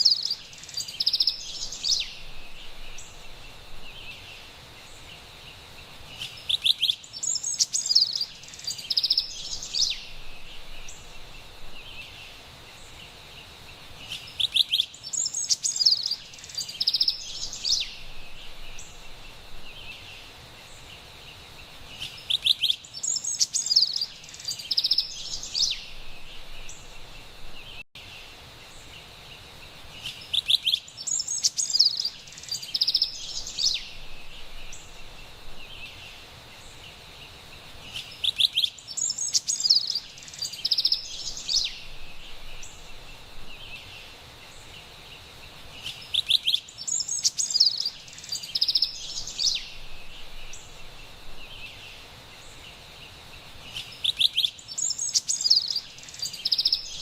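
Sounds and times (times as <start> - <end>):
wren singing: 0.0 - 13.2, 14.0 - 27.8, 30.0 - 57.0
faint background hiss: 0.0 - 57.0.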